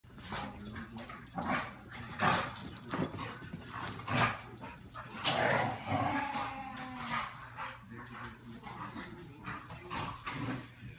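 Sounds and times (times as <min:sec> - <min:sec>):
dogs play-fighting vocalizing: 0:00.2 - 0:10.9.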